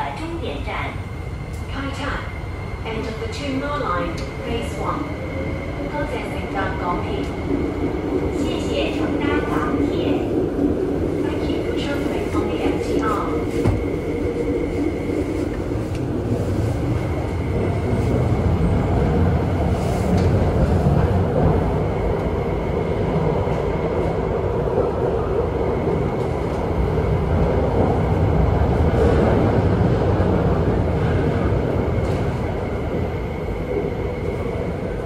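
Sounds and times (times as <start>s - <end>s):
constant train hum: 0.0s - 35.0s
train wheels rumbling on rail: 0.0s - 35.0s.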